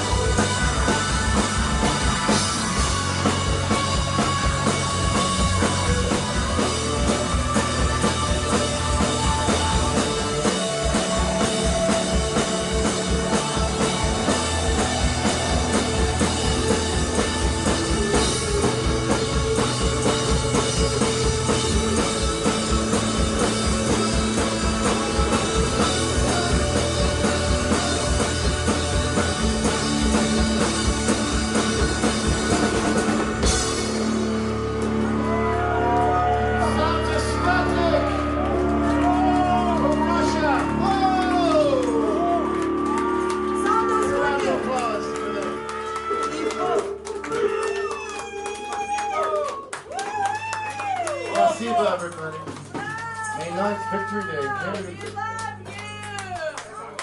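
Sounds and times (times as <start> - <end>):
drum kit beat: 0.0 - 49.2, 49.8 - 56.4
guitar and bass notes: 0.0 - 49.5.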